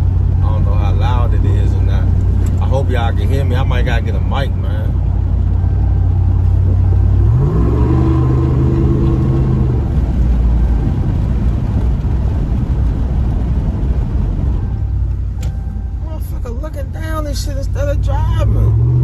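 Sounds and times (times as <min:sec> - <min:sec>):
pickup truck exhaust drone: 0:00.0 - 0:19.0
road noise: 0:00.0 - 0:19.0.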